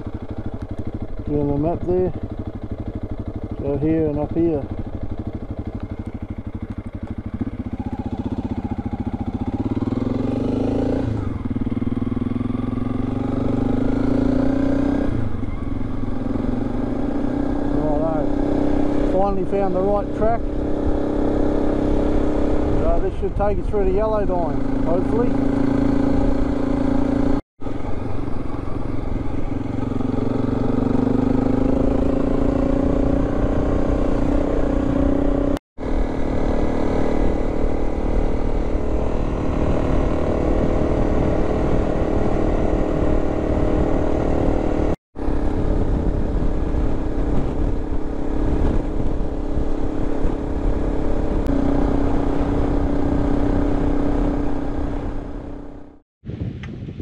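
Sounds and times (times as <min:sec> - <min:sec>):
motorcycle engine running: 0:00.0 - 0:56.0
tyre and road rumble: 0:00.0 - 0:57.0.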